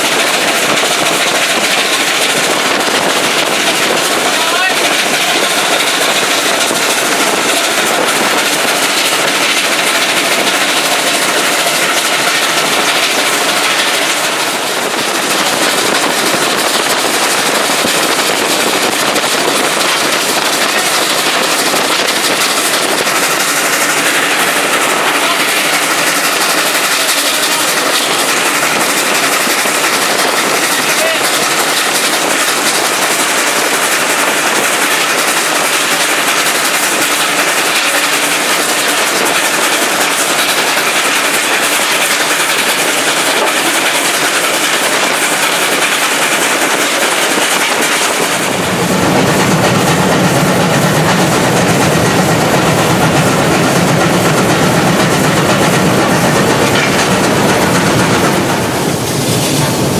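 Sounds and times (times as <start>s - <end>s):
steam locomotive working: 0.0s - 59.9s
wheels on rails: 0.0s - 59.9s.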